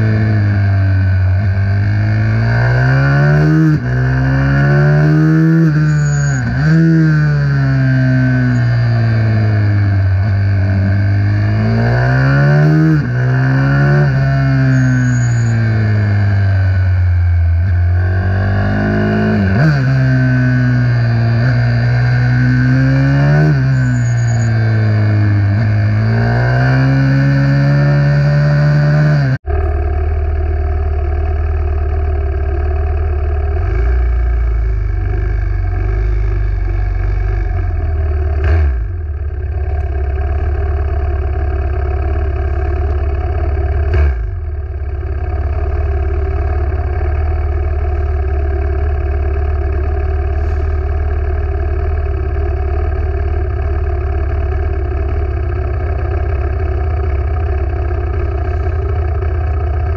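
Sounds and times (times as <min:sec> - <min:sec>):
small motorcycle engines droning: 0:00.0 - 0:59.9.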